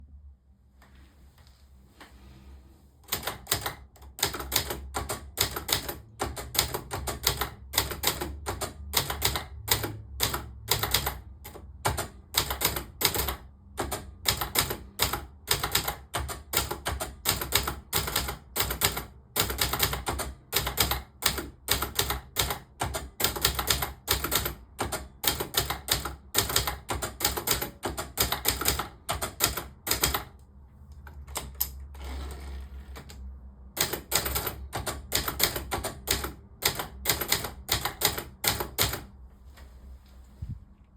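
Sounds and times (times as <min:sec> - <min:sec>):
typewriter keys striking: 0:03.1 - 0:30.3, 0:31.3 - 0:39.1.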